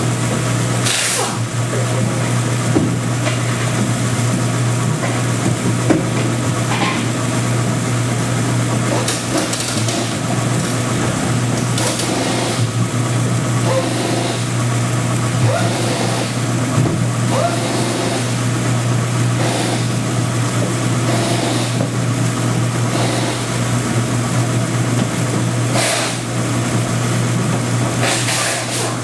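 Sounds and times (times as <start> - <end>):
machine motor humming: 0.0 - 29.0.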